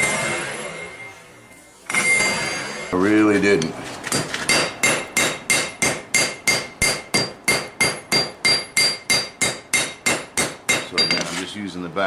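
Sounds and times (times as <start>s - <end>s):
hammer striking hot steel on anvil: 0.0s - 1.1s, 1.9s - 3.0s, 3.6s - 11.4s.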